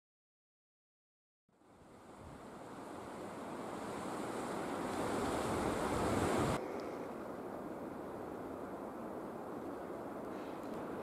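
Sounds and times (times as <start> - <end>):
wind rushing through trees: 1.5 - 11.0.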